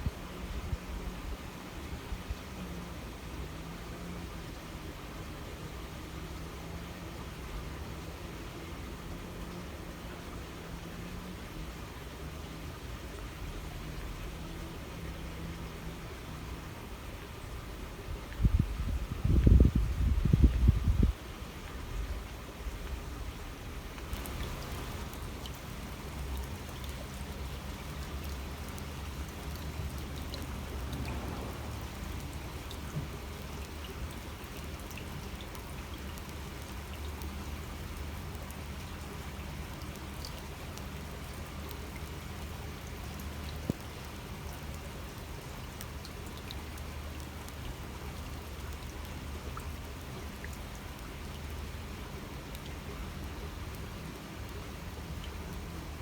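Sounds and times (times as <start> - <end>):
water babbling in a stream: 0.0 - 56.0
water drips and splashes: 0.3 - 56.0.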